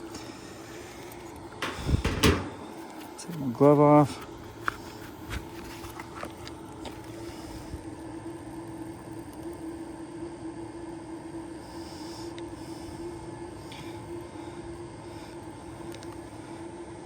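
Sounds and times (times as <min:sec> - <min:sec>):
mechanical hum with held tone: 0:00.0 - 0:17.0.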